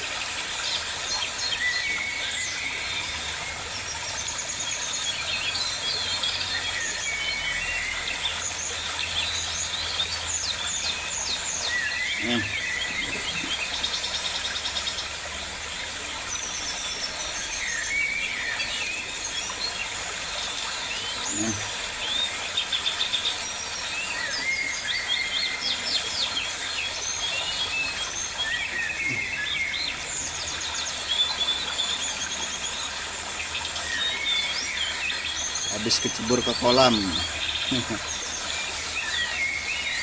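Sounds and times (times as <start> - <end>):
birds chirping and trilling: 0.0 - 40.0.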